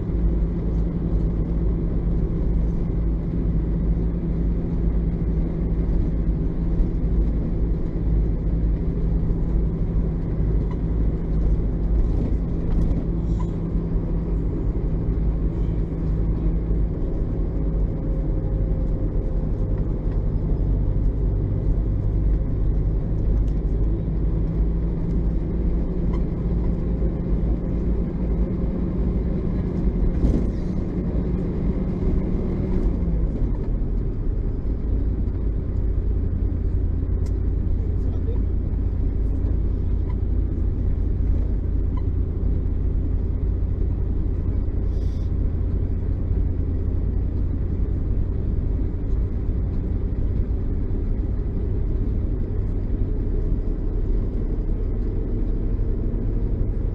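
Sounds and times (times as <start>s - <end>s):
bus engine running steadily: 0.0s - 56.9s.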